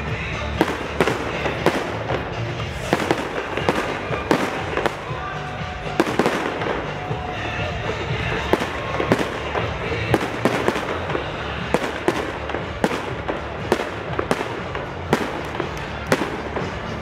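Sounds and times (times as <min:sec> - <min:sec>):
firecracker bangs: 0:00.0 - 0:17.0
steady background din: 0:00.0 - 0:17.0.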